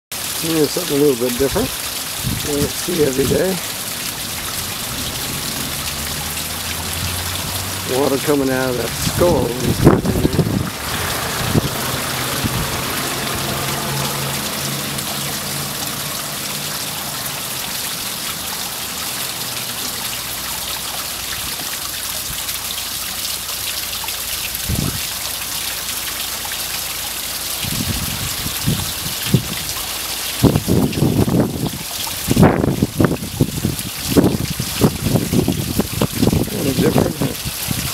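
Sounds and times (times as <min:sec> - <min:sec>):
fountain water splashing on rocks: 0:00.1 - 0:37.9.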